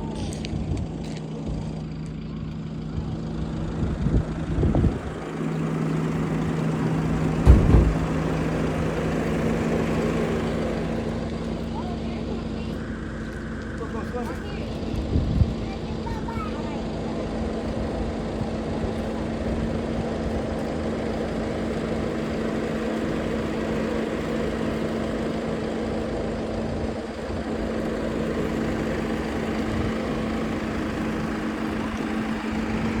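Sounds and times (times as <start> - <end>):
road noise: 0.0 - 33.0
vehicle engine humming: 0.0 - 33.0.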